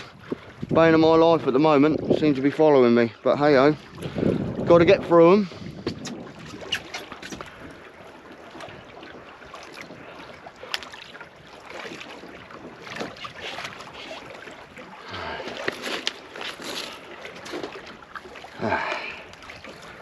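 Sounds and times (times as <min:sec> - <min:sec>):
water around a boat: 0:00.0 - 0:20.0
wind: 0:00.0 - 0:20.0.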